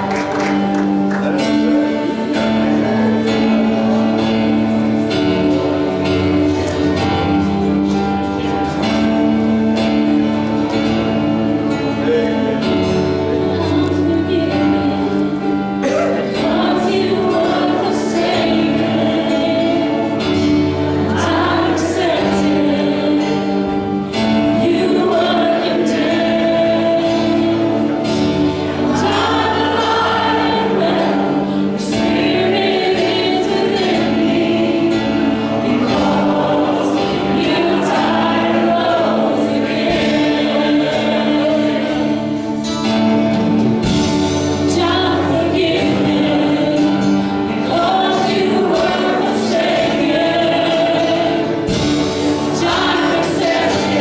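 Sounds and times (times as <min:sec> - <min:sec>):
choir singing: 0:00.0 - 0:54.0
sustained instrumental chords: 0:00.0 - 0:54.0.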